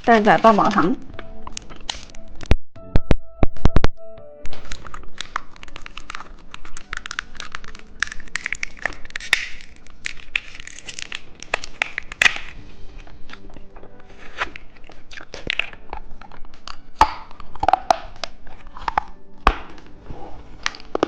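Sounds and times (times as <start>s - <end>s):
plastic wrapper crinkling: 0.0s - 2.5s, 4.5s - 19.2s.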